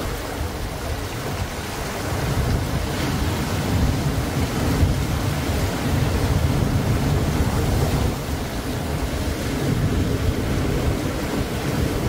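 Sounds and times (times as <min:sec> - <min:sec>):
ocean surf breaking: 0:00.0 - 0:12.0
wind rumble on microphone: 0:00.0 - 0:12.0.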